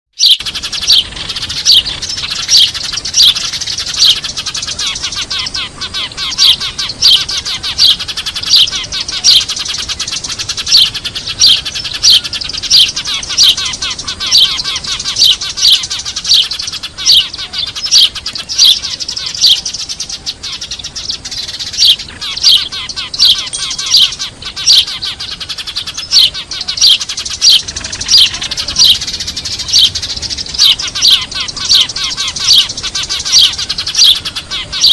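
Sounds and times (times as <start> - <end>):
chatter of many sparrows: 0.2 - 34.9
sparrow chirping loudly: 0.2 - 34.9.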